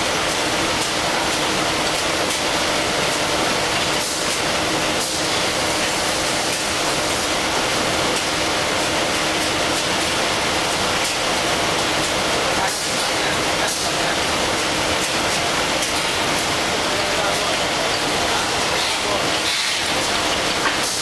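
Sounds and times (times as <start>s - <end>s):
folding machine and conveyor din: 0.0s - 21.0s.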